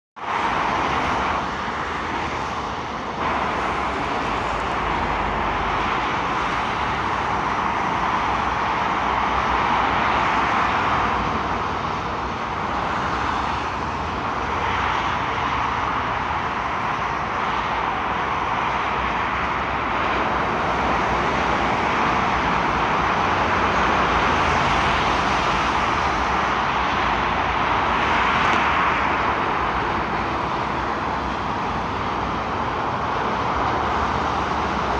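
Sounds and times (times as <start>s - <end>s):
motorway traffic passing at speed: 0.2s - 34.9s.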